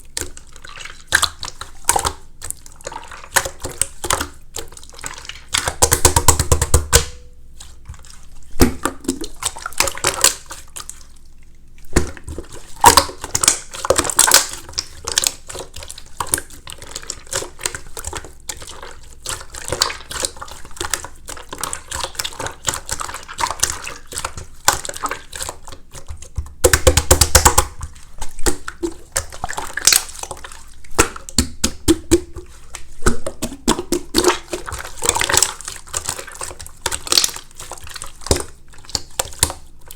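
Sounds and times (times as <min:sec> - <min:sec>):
slime squelching by hand: 0:00.0 - 0:39.9.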